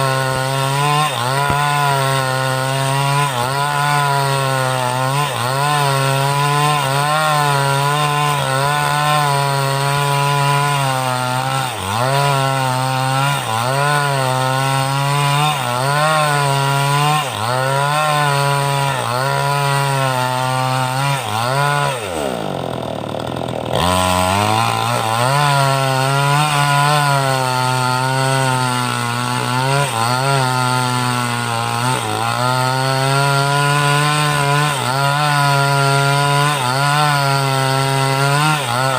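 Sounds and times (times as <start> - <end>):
chainsaw cutting through log: 0.0 - 38.9.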